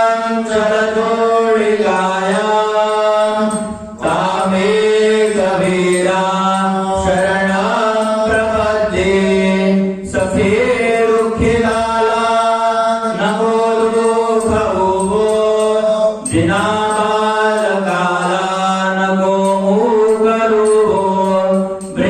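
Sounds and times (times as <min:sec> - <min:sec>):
men singing a devotional chant: 0:00.0 - 0:22.0.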